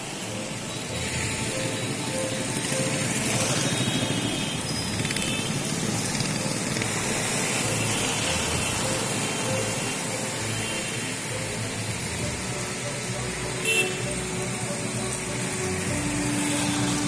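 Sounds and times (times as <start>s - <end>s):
engine and traffic noise: 0.0s - 17.0s.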